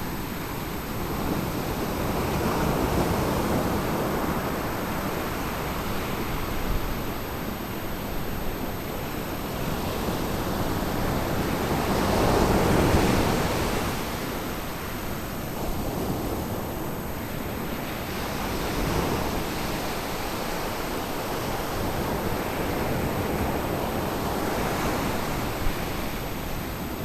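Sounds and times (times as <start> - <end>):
ocean surf on beach: 0.0 - 27.0.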